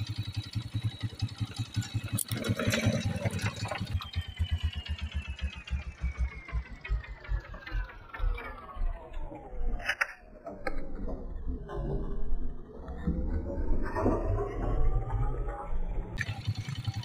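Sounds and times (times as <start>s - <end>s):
engine thumping with whine: 0.0s - 17.0s.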